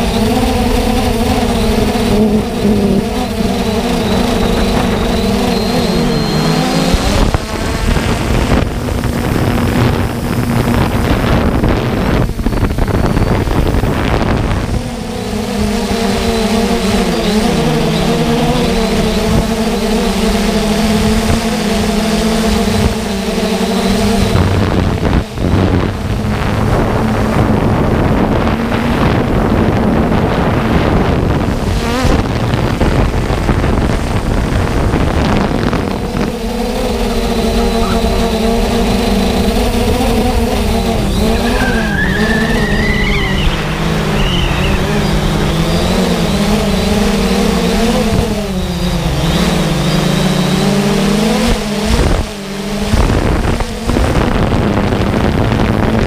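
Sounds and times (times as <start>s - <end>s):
drone motors humming: 0.0s - 56.0s
wind rush on microphone: 0.0s - 56.0s.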